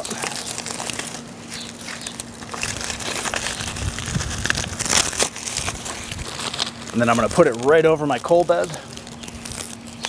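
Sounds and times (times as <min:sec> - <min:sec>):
corn husks rustling and crackling: 0:00.0 - 0:10.0.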